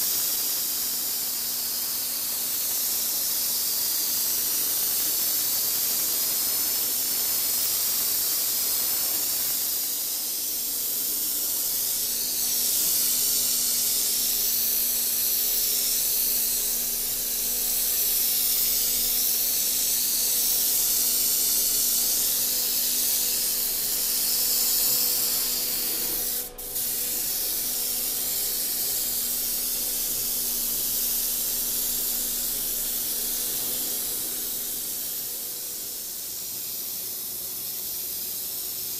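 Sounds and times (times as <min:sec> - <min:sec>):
airbrush spraying hiss: 0:00.0 - 0:38.9.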